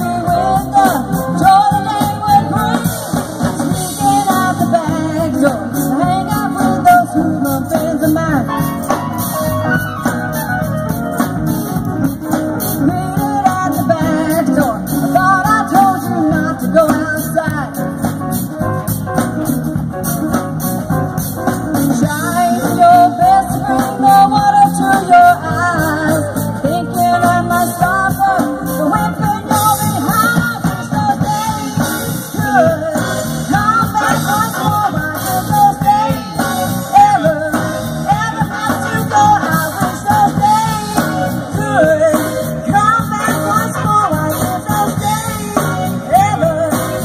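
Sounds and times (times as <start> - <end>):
woman singing: 0.0 - 10.0, 12.6 - 17.9, 21.9 - 47.0
live band with keyboards and guitar: 0.0 - 47.0.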